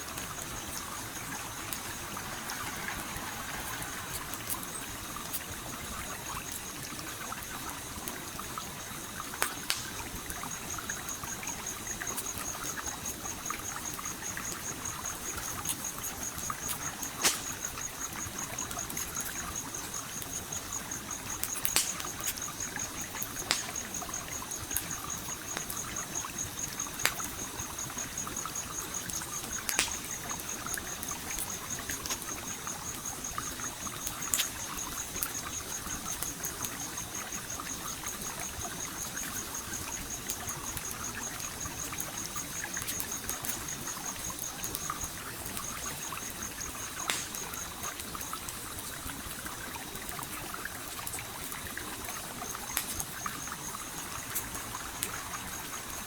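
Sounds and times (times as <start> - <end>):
campfire crackling and popping: 0.0 - 56.0
stream flowing: 0.0 - 56.0.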